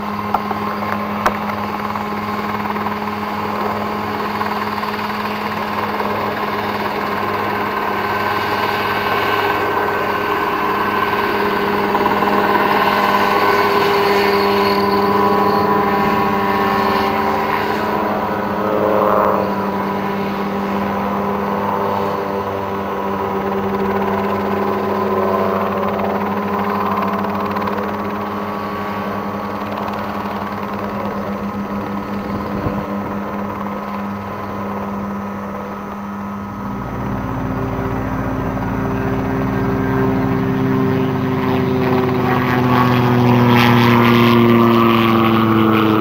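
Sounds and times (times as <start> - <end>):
helicopter engine and rotor drone: 0.0 - 46.0.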